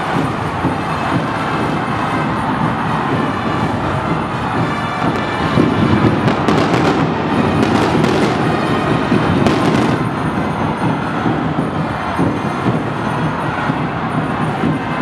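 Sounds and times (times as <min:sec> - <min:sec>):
fireworks cracking: 0:00.0 - 0:13.8
crowd roaring: 0:00.0 - 0:15.0.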